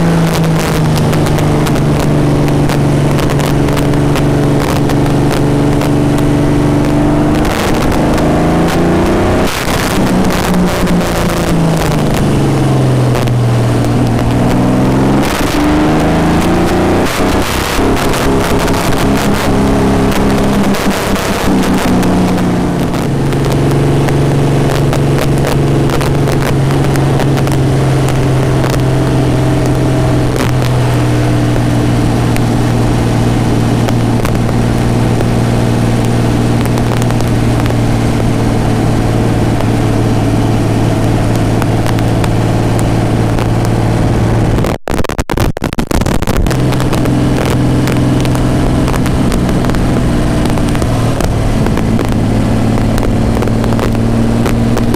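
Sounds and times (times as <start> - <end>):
racing engine running loud: 0.0 - 44.8, 46.3 - 54.9.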